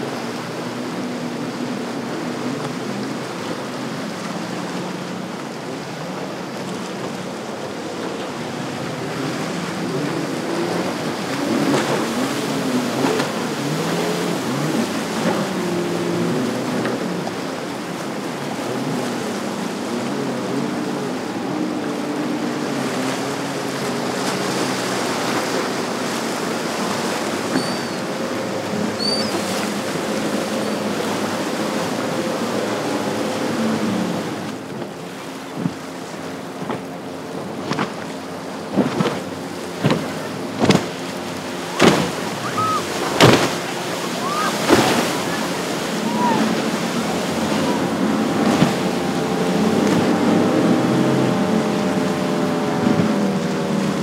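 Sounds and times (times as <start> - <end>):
outboard motors running: 0.0 - 54.0
surf and churning wake: 0.0 - 54.0.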